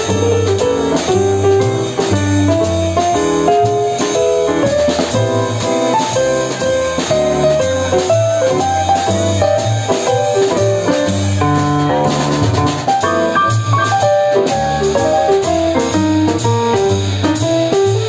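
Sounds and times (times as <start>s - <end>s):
piano melody: 0.0s - 18.0s
plucked double bass: 0.0s - 18.0s.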